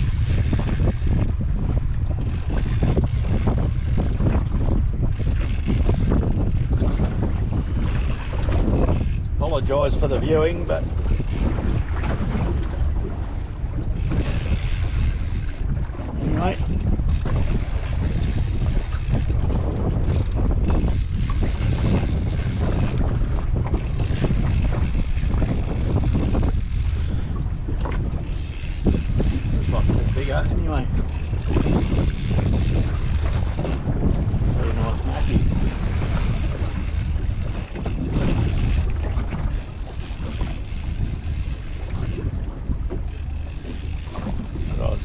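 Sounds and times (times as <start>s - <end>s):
choppy sea washing: 0.0s - 45.0s
wind buffeting microphone: 0.0s - 45.0s.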